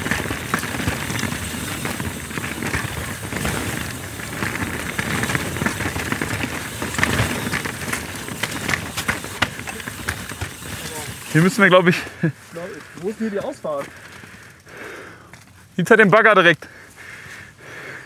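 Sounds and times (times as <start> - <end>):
bike rattles and clicks: 0.0 - 15.8.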